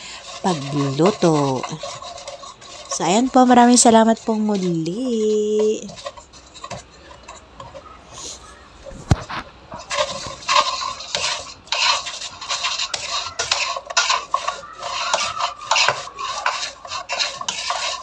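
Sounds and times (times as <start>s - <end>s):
spatula scraping a wok: 0.0s - 18.0s.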